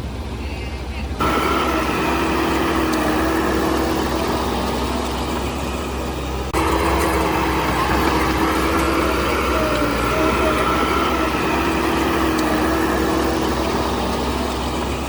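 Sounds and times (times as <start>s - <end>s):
constant engine whine: 0.0s - 15.0s
diesel engine running: 0.0s - 15.0s.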